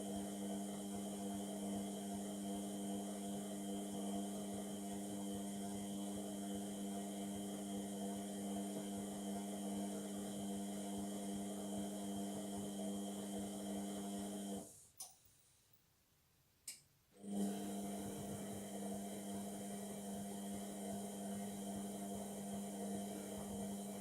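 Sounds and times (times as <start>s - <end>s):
washing machine motor humming: 0.0s - 14.7s, 17.2s - 24.0s.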